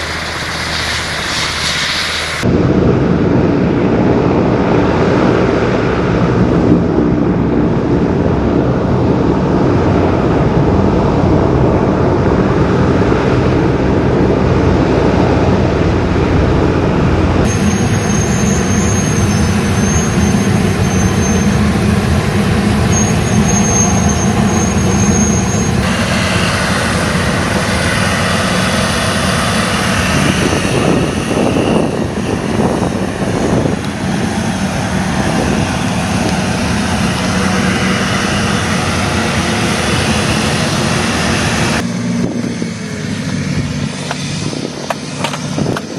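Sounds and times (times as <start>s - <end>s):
helicopter engine and rotor noise: 0.0s - 45.9s
high whine: 0.0s - 45.9s.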